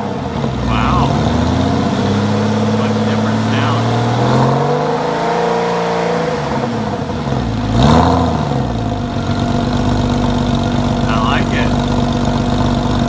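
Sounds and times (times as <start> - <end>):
car engine revving and idling: 0.0 - 13.0.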